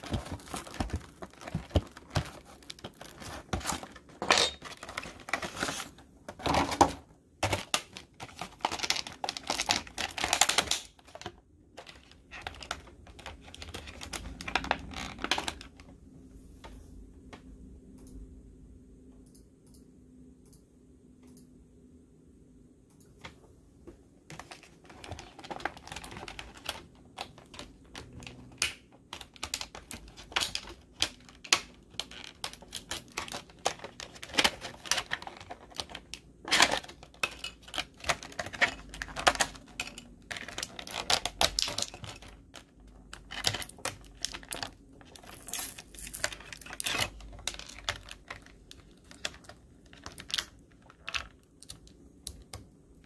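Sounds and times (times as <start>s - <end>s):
plastic packaging crinkling: 0.0s - 15.9s, 24.3s - 52.6s.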